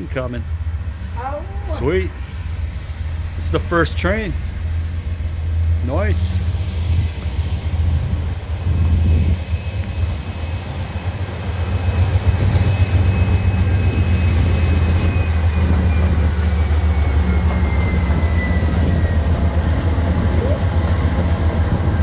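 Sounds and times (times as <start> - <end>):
diesel locomotives rumbling past: 0.0 - 22.0.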